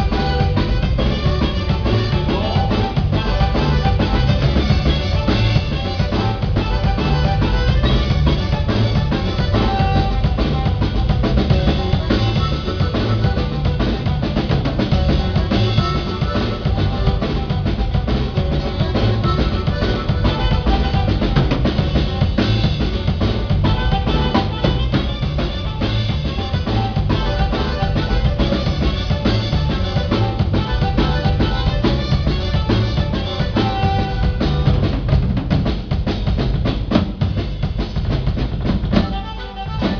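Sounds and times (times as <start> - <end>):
sustained pitched instruments: 0.0 - 35.2
drum kit beat: 0.0 - 39.9
live band playing: 0.0 - 39.9.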